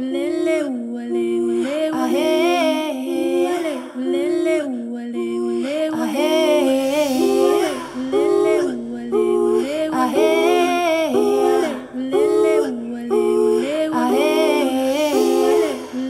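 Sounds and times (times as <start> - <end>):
voices singing in harmony: 0.0 - 16.0.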